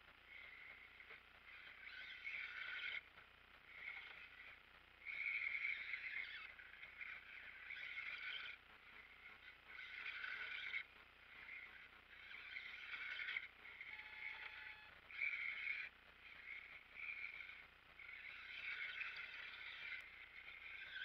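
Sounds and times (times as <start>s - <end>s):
toy car motor whining: 0.0s - 21.0s.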